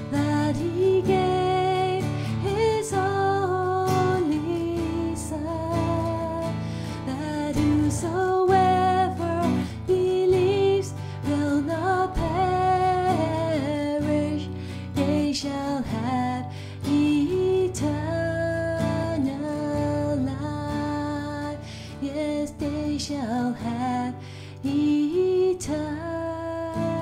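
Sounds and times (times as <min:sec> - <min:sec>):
strummed acoustic guitar: 0:00.0 - 0:27.0
woman singing slow song: 0:00.0 - 0:27.0.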